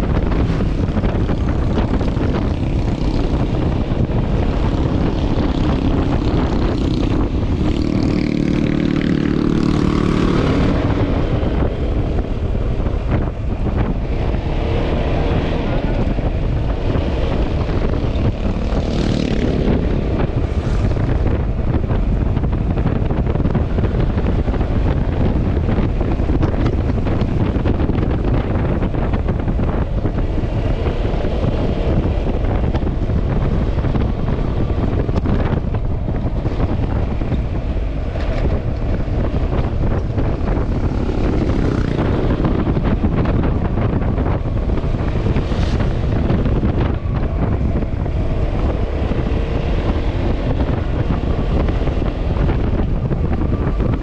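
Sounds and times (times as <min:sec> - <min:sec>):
scooter engine and road noise: 0:00.0 - 0:54.0
wind buffeting microphone: 0:00.0 - 0:54.0.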